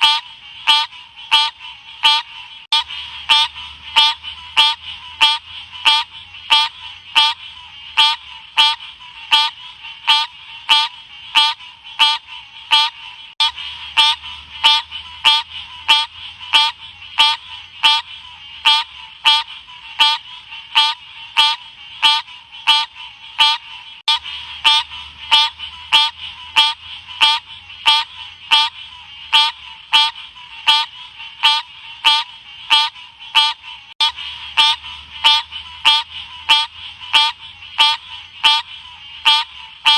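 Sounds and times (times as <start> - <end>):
frog calling: 0.0 - 39.9.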